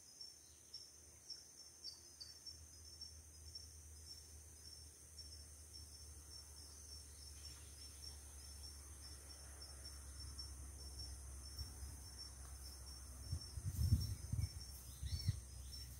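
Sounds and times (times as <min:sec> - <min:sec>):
crickets chirping: 0:00.0 - 0:15.9.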